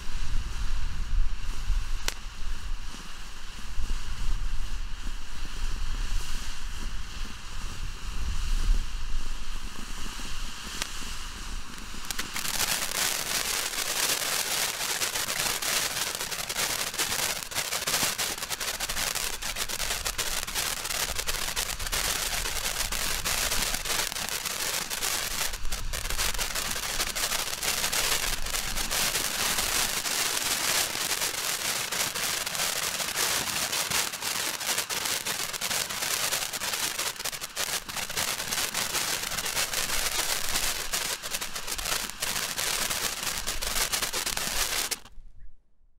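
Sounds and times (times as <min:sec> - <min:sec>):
fast crackling firework: 0:00.0 - 0:45.1
firework spraying sparks hissing: 0:00.0 - 0:45.1.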